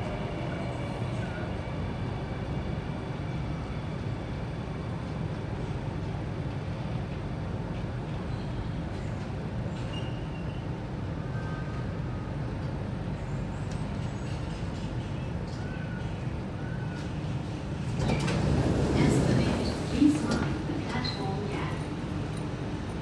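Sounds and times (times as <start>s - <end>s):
metro train hum: 0.0s - 23.0s.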